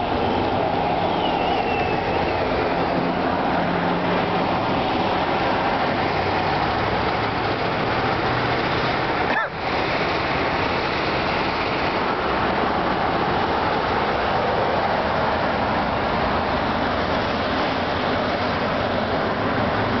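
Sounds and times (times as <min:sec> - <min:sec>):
road traffic rushing: 0:00.0 - 0:20.0.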